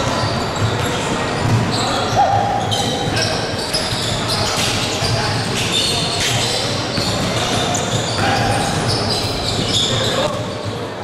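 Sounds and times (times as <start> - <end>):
sneakers squeaking on hardwood: 0.0 - 10.8
basketball bouncing: 0.0 - 10.9.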